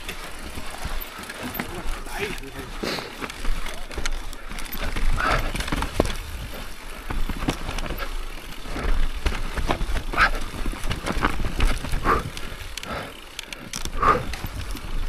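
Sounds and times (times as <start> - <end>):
bike clattering and rattling: 0.0 - 15.0
bike tyres rolling over dirt: 0.0 - 15.0.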